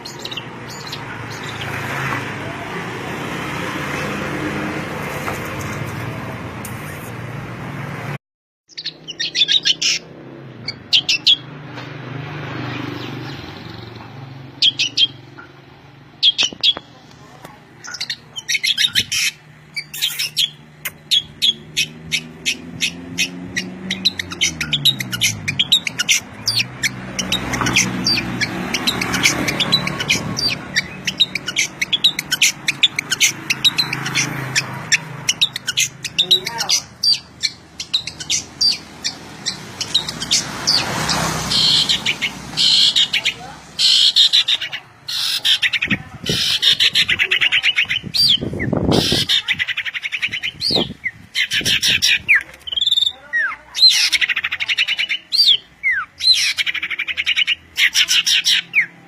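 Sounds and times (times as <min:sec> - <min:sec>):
songbirds chirping: 0:00.0 - 0:06.7, 0:08.7 - 0:59.0.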